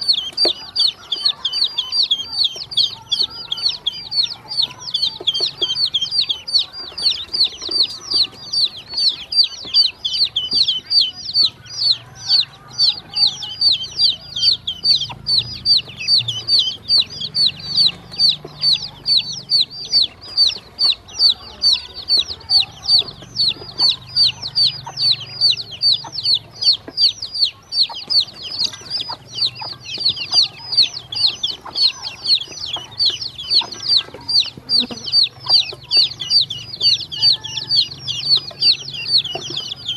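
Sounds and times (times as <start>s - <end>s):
chicks and ducklings peeping: 0.0s - 39.9s.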